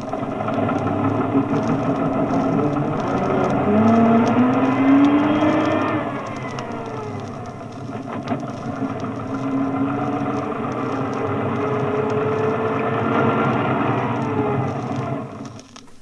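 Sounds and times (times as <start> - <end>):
bus engine running: 0.0 - 16.0
gear whine: 0.0 - 16.0.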